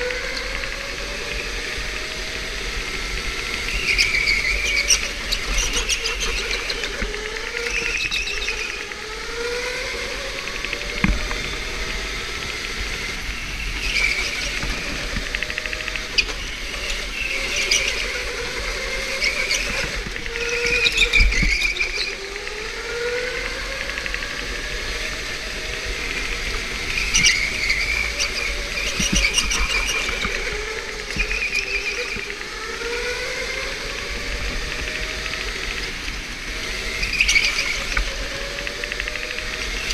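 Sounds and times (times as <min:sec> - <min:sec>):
electric go-kart motor whine: 0:00.0 - 0:39.9.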